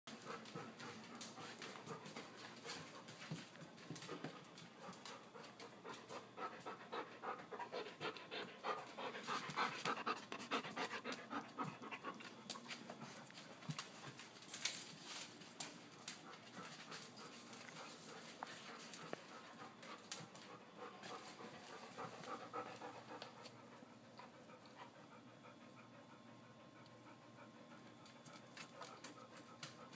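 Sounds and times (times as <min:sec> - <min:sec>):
dog panting: 0:00.1 - 0:14.3, 0:15.6 - 0:29.9.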